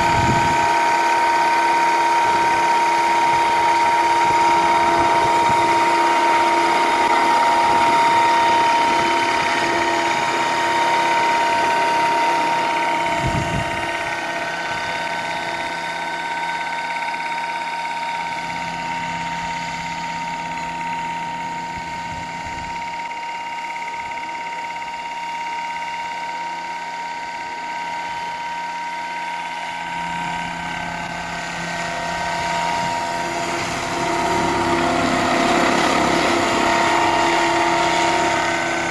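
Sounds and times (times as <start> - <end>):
model helicopter whine: 0.0 - 38.9.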